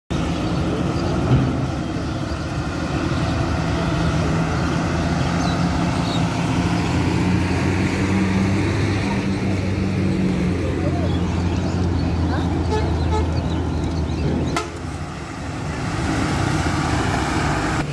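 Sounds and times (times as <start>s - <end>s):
bus engine driving by: 0.1s - 17.9s.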